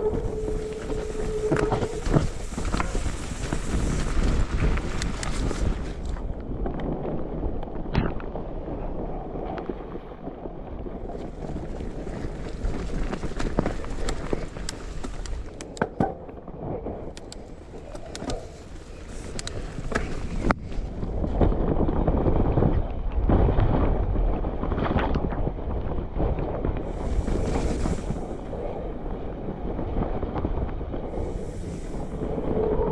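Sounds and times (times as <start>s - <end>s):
tyre rumble on dirt trail: 0.0s - 7.6s, 9.7s - 32.9s.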